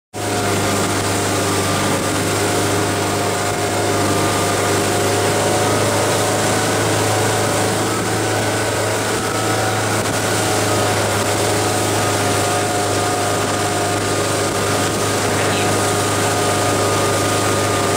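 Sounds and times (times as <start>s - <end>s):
water rushing in wake: 0.1s - 17.9s
boat engine running: 0.2s - 17.9s.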